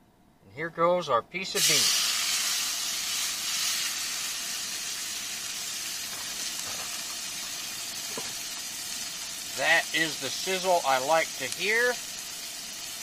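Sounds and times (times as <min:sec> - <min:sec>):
steak sizzling in a pan: 0:01.6 - 0:13.0.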